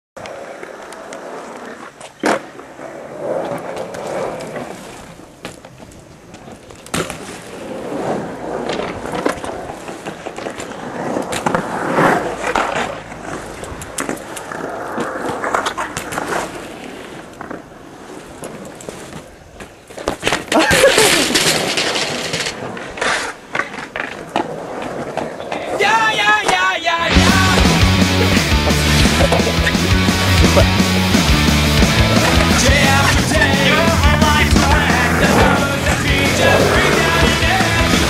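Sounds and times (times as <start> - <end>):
bike tyres rolling on concrete: 0.2 - 38.0.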